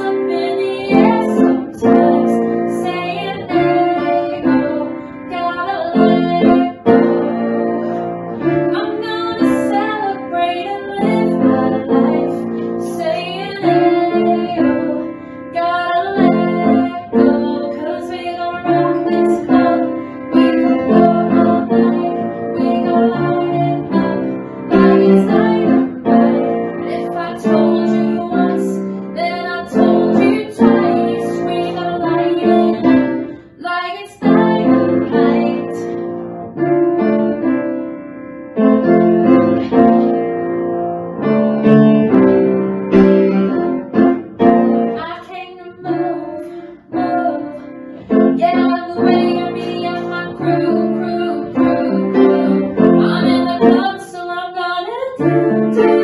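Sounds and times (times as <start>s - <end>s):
woman singing: 0.0s - 36.0s, 44.9s - 56.0s
piano accompaniment: 0.0s - 56.0s.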